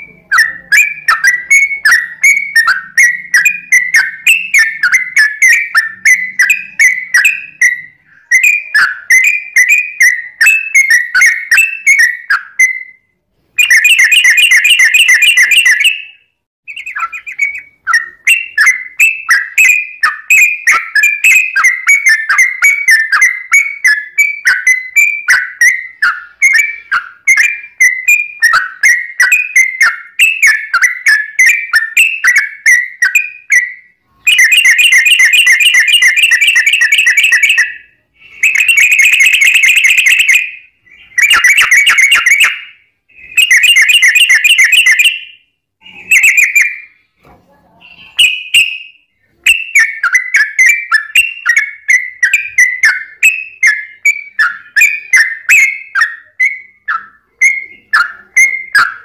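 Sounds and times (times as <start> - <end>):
bird chirping song: 0.0 - 59.0.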